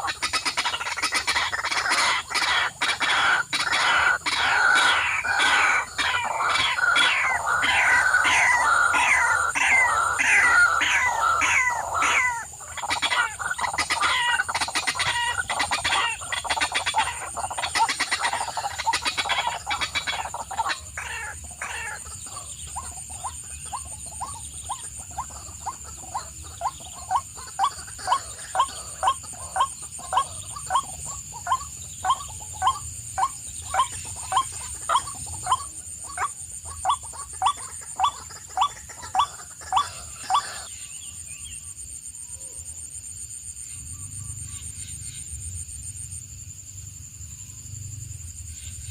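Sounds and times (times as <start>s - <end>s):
chorus of falling bird calls: 0.0s - 41.8s.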